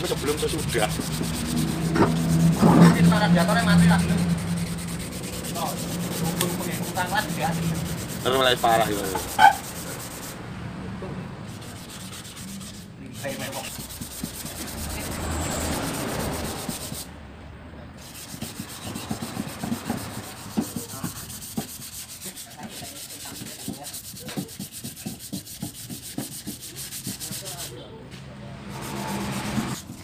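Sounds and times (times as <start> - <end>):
sanding pad scraping metal: 0.0 - 10.4, 11.5 - 17.1, 18.0 - 27.8, 28.6 - 30.0.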